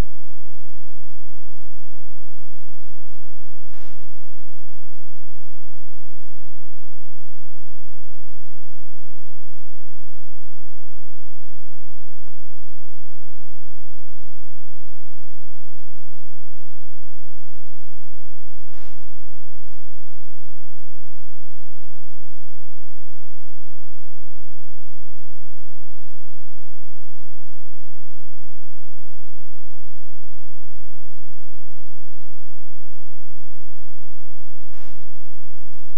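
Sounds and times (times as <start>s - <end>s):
electrical mains hum and buzz: 0.0s - 35.9s.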